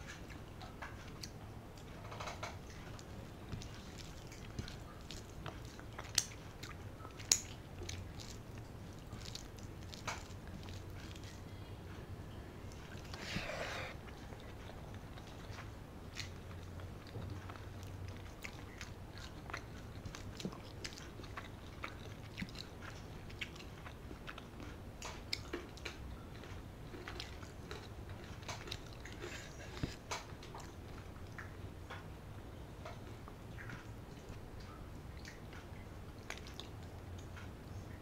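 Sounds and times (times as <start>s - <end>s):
person chewing: 0.0s - 32.0s.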